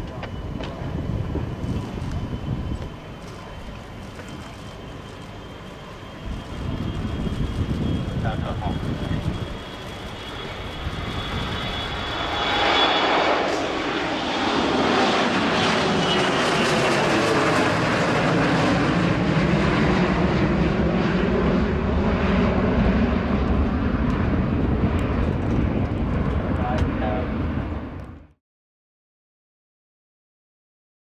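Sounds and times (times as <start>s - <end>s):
high jet whine: 0.0s - 28.4s
jet taking off: 0.0s - 28.4s.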